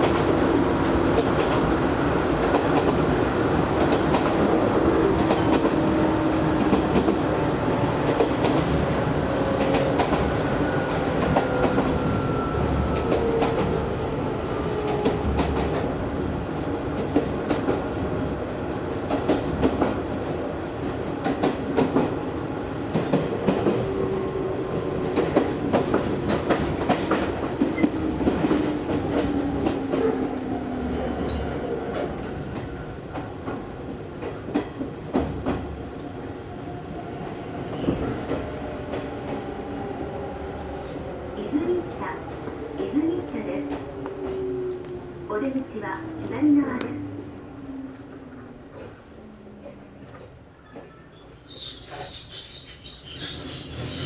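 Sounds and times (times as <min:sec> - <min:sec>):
electric train rumble: 0:00.0 - 0:50.6.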